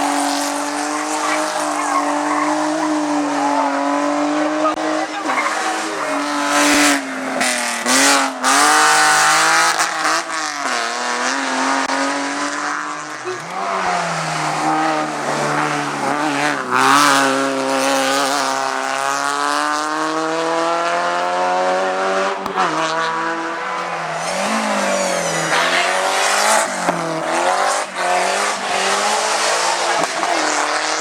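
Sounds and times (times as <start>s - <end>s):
race car engine revving high: 0.0s - 31.0s.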